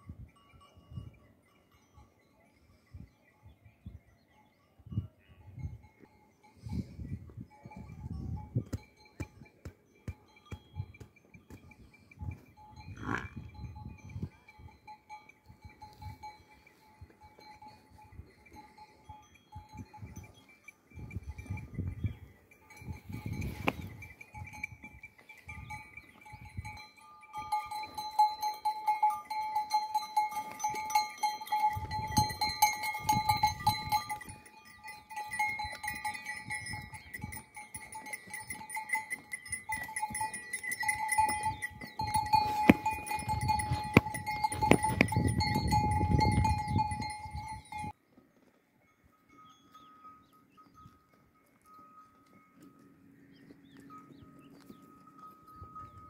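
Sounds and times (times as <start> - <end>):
animal neck bells clinking: 0.0 - 3.2, 4.1 - 56.0.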